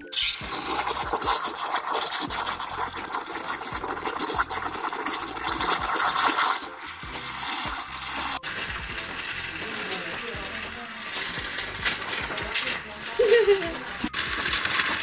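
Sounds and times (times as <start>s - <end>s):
steam wand hissing: 0.0s - 15.0s.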